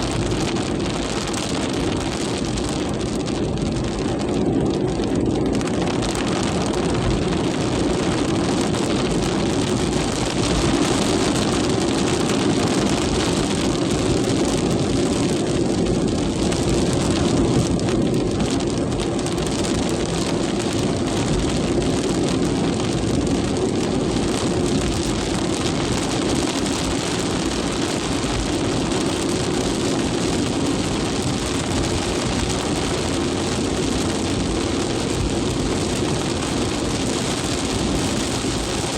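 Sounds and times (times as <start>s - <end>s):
heavy rain falling: 0.0s - 38.9s
low rumble: 0.0s - 38.9s
strong wind: 0.0s - 38.9s.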